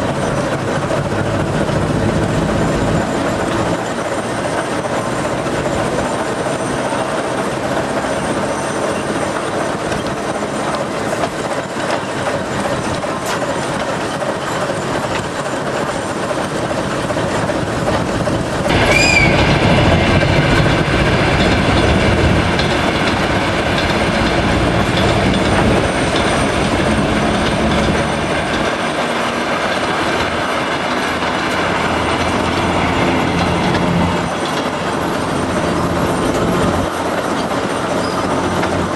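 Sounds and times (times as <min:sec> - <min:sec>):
diesel locomotive engine running: 0:00.0 - 0:38.9
high wheel squeal: 0:00.0 - 0:38.9
wheels clicking over track: 0:00.0 - 0:38.9.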